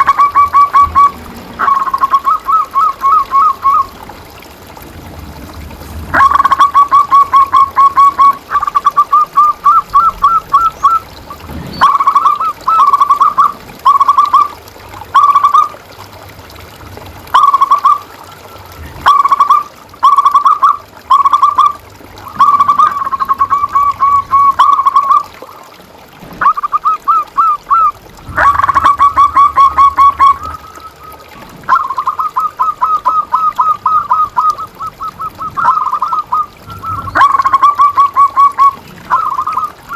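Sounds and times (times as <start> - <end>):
dove rapid staccato cooing: 0.0 - 4.3, 6.0 - 15.8, 17.3 - 39.9.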